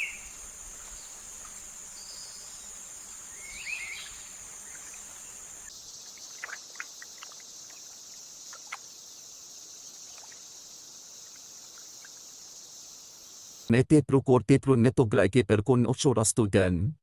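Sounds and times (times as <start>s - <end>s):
high-pitched insect chorus: 0.0s - 13.7s.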